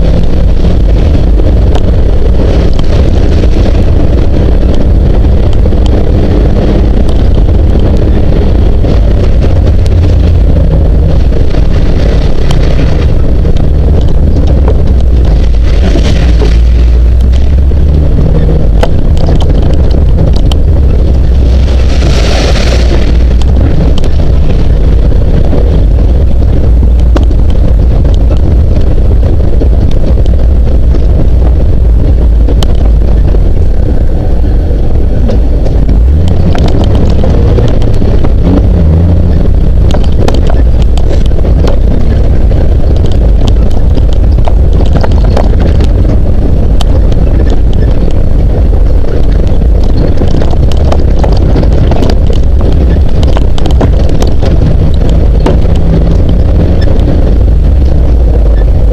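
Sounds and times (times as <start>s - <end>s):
vehicle engine low rumble: 0.0s - 58.9s
wind buffeting microphone: 0.0s - 58.9s.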